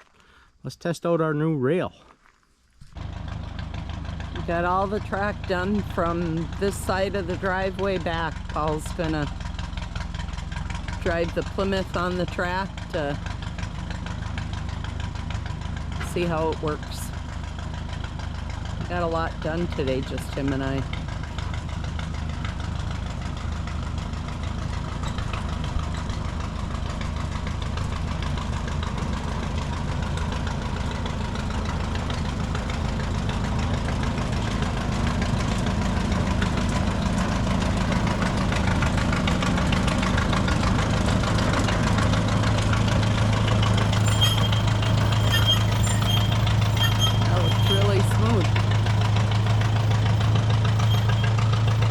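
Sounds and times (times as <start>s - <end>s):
locomotive engine running: 2.9s - 51.9s.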